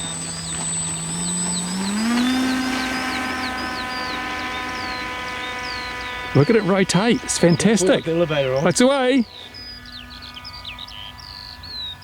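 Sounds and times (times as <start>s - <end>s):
birds chirping: 0.0s - 12.0s
model plane motor whining: 0.0s - 12.0s.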